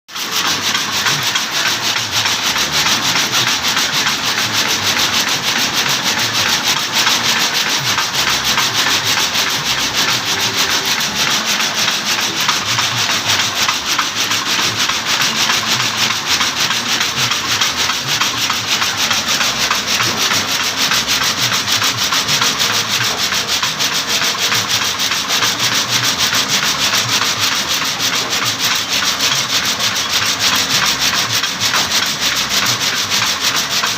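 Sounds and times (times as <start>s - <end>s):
wooden sticks rubbing in machine: 0.1s - 33.9s.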